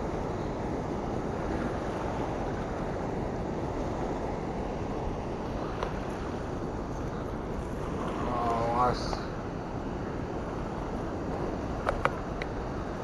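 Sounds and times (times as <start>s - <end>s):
water churning below a dam: 0.0s - 13.0s
wind on microphone: 0.0s - 13.0s.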